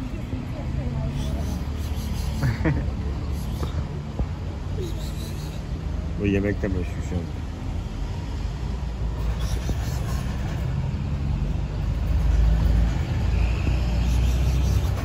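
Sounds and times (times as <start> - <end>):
low rumble of street traffic: 0.0 - 15.0
vehicle passing by: 0.0 - 15.0.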